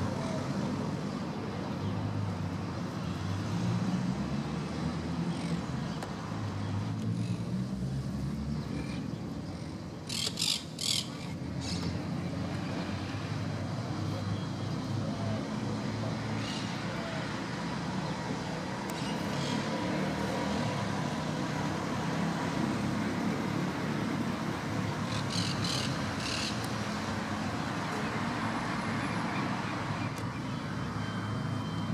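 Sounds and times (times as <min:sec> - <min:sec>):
low rumble of road traffic: 0:00.0 - 0:31.9.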